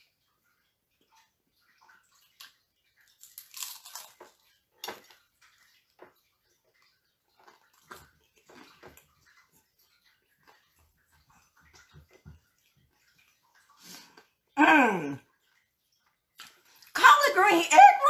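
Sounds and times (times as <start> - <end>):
crunching and chewing food: 0.0 - 17.0.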